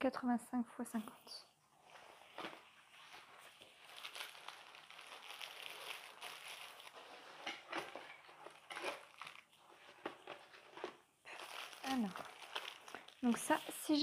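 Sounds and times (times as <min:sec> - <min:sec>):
packaging rustling and crinkling: 0:01.8 - 0:14.0.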